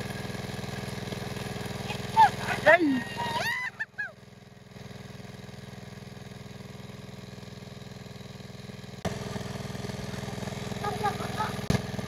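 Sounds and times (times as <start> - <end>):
water pump motor chugging: 0.0 - 12.0.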